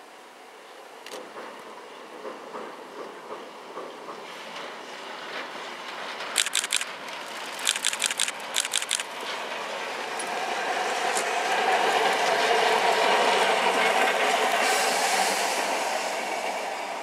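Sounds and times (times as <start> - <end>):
rushing train noise: 0.0 - 17.0.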